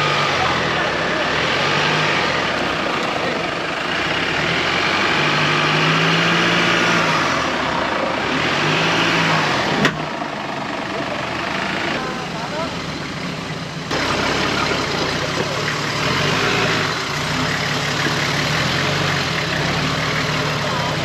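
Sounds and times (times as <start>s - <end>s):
off-road vehicle engine at low speed: 0.0s - 21.0s
tyres on dirt: 0.0s - 21.0s.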